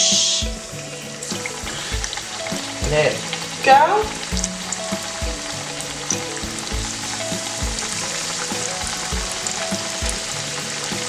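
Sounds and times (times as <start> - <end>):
background music with low beat: 0.0 - 11.0
fish sizzling in hot oil: 0.0 - 11.0.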